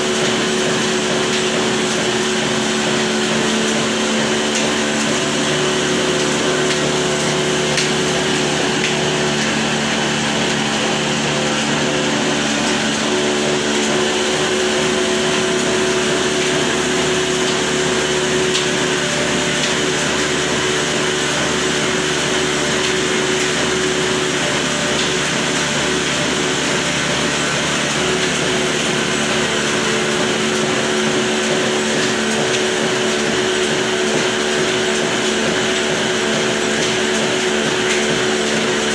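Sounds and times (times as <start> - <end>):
diesel engine and mill whirring: 0.0 - 38.9.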